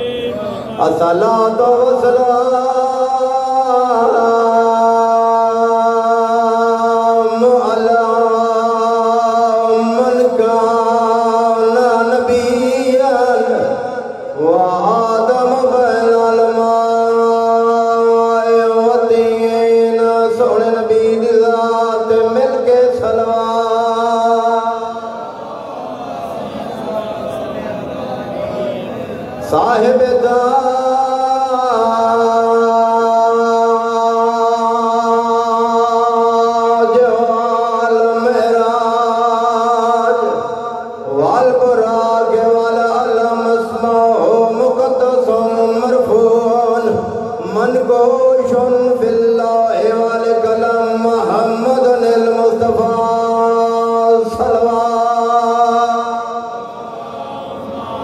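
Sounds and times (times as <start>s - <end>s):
man chanting through a microphone: 0.0s - 58.0s.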